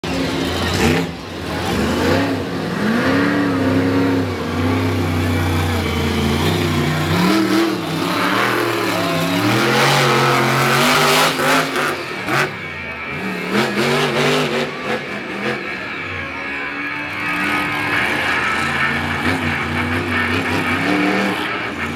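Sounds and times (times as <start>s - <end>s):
truck engine revving: 0.0s - 21.9s.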